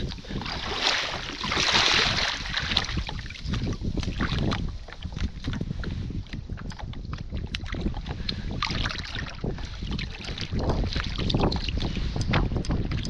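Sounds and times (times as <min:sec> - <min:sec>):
shallow water lapping: 0:00.0 - 0:13.0
wind buffeting microphone: 0:00.0 - 0:13.0.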